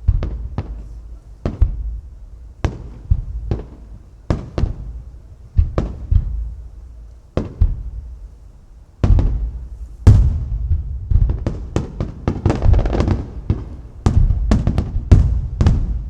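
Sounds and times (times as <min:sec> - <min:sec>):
firework crackling: 0:00.0 - 0:16.0
firework shells booming: 0:00.0 - 0:16.0.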